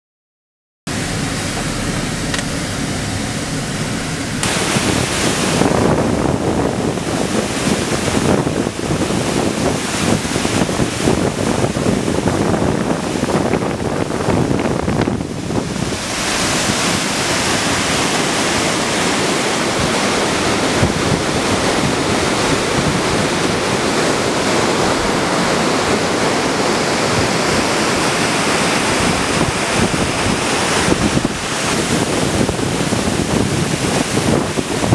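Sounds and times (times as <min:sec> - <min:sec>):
waterfall rushing: 0:00.9 - 0:34.9.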